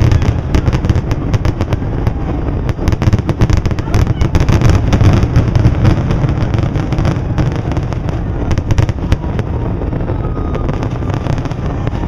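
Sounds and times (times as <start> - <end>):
fireworks crackling: 0.0 - 12.0
low rumble of fireworks: 0.0 - 12.0.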